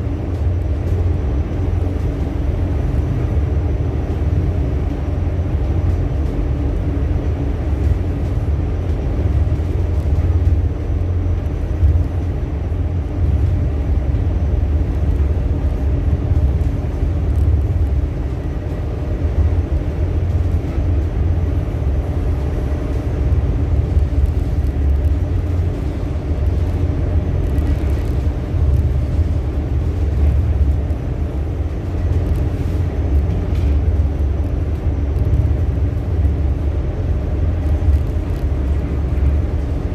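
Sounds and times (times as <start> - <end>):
faint machinery hum: 0.0 - 39.9
ship engines rumbling: 0.0 - 39.9.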